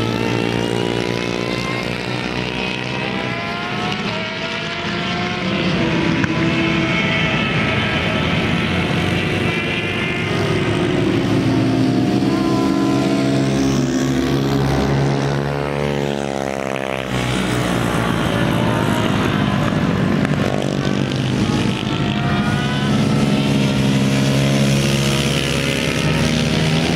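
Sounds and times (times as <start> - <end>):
motorbike engine revving: 0.0 - 26.9.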